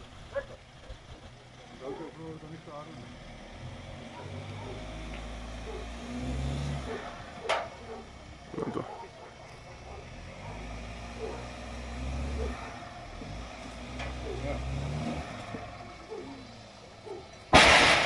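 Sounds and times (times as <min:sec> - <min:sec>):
car engine at low revs: 0:00.0 - 0:18.0.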